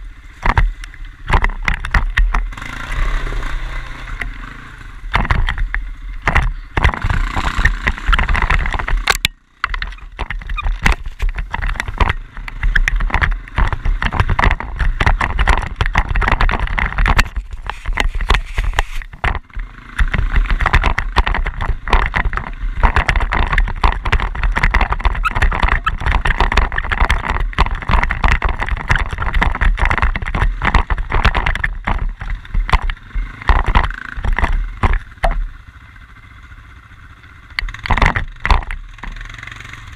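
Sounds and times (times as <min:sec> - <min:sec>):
quad bike engine: 0:00.0 - 0:39.9
knocks and rattles: 0:00.4 - 0:03.4, 0:05.0 - 0:35.6, 0:37.4 - 0:39.9.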